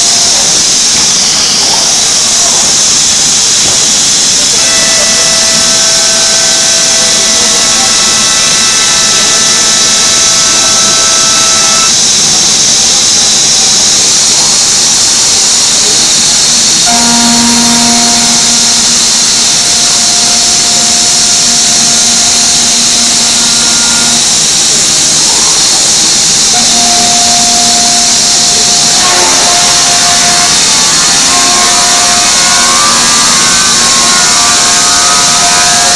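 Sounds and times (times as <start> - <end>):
router cutting hiss: 0.0 - 35.9
spindle whine: 0.0 - 35.9.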